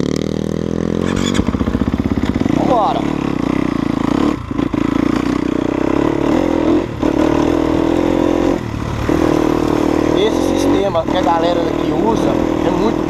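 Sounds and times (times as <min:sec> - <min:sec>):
motorcycle engine under throttle: 0:00.0 - 0:13.0.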